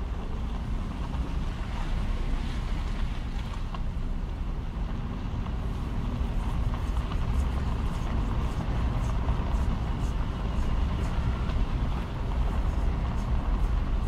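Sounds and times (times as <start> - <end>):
car rolling on dirt lane: 0.0 - 14.0.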